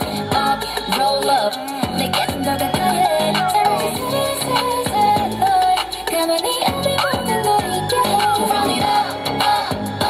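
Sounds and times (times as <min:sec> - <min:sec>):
female vocal melody: 0:00.0 - 0:10.0
steady drum beat: 0:00.0 - 0:10.0.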